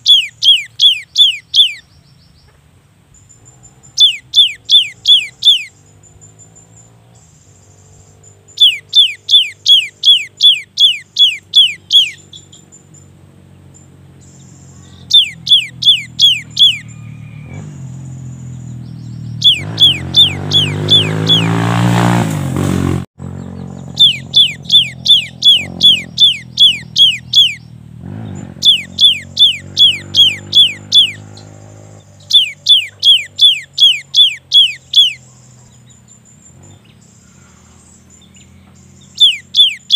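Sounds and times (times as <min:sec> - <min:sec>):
bird singing whistled notes: 0:00.0 - 0:22.1, 0:23.3 - 0:39.9.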